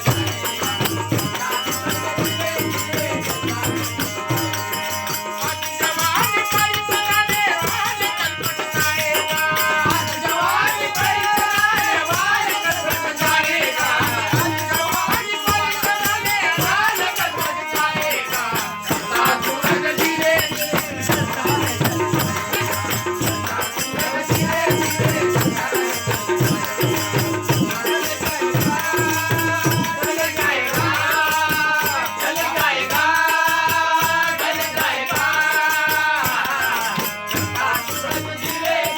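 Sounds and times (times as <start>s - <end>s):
hand drums: 0.0s - 38.9s.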